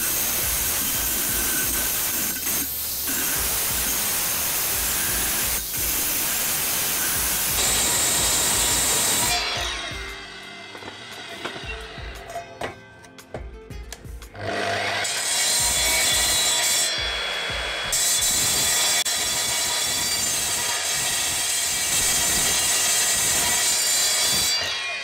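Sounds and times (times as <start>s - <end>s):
saw grinding steel with screech: 0.0s - 12.8s, 14.4s - 25.0s.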